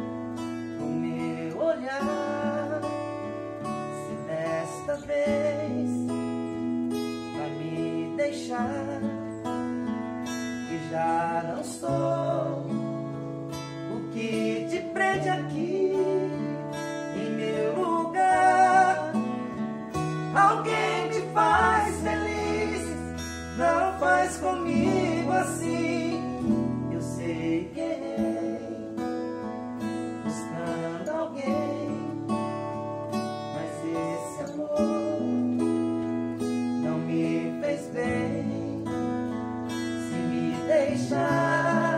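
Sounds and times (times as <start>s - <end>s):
acoustic guitars strummed: 0.0s - 41.9s
men singing: 0.8s - 3.0s, 4.0s - 6.2s, 7.4s - 9.2s, 10.7s - 12.8s, 13.9s - 29.2s, 30.1s - 32.6s, 33.5s - 35.8s, 36.8s - 41.9s.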